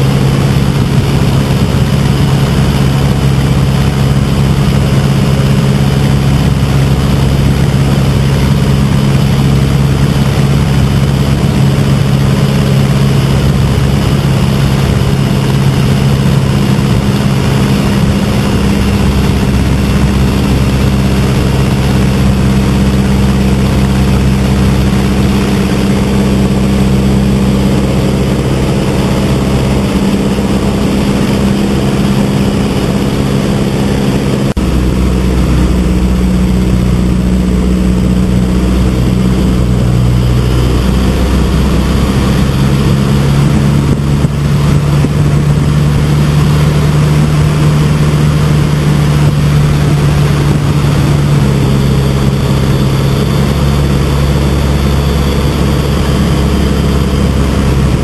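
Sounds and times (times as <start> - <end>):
airplane engine and propeller: 0.0 - 58.0
wind rush: 0.0 - 58.0.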